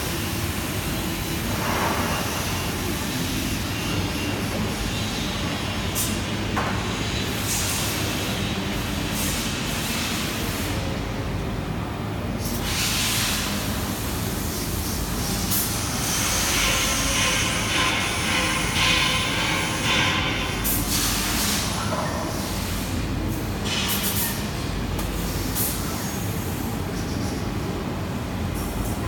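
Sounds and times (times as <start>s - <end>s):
low factory hum: 0.0s - 29.0s.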